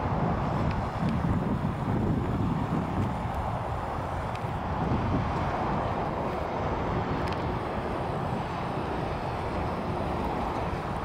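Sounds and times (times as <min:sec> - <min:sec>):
constant rushing sound: 0:00.0 - 0:11.0.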